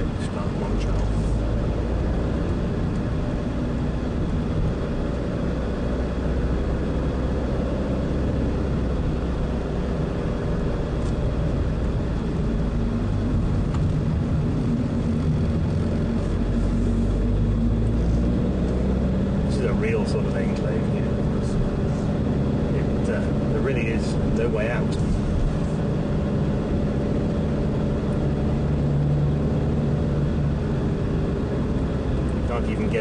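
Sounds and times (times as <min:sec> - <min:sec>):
car engine and tyre drone: 0:00.0 - 0:33.0.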